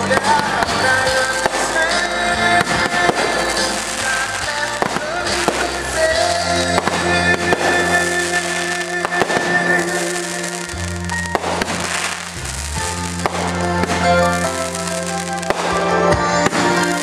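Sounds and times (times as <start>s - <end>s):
fireworks popping and crackling: 0.0s - 17.0s
music playing: 0.0s - 17.0s.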